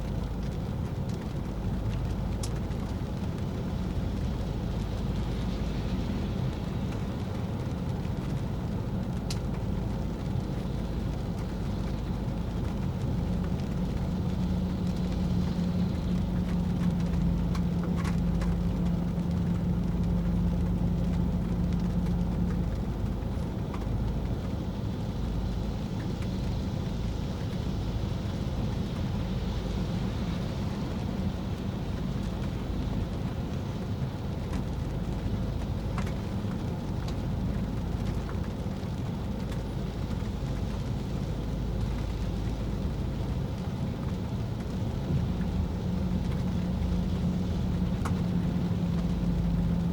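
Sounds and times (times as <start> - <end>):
car driving on wet road: 0.0 - 49.9.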